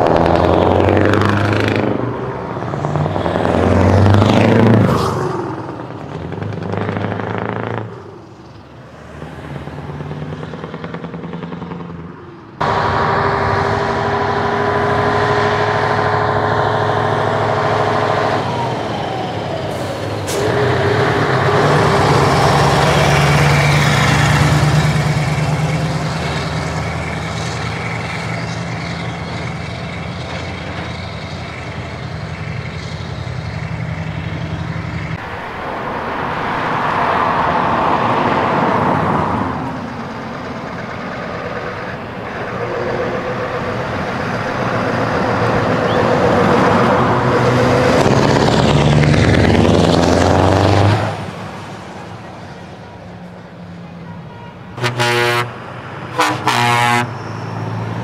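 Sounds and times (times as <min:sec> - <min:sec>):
truck diesel engines passing: 0:00.0 - 0:58.0.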